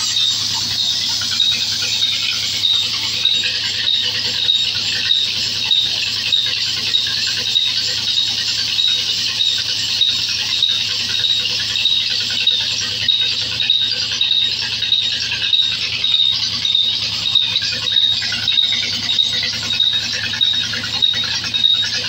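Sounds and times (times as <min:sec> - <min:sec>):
high pulsing squeal: 0:00.0 - 0:22.0.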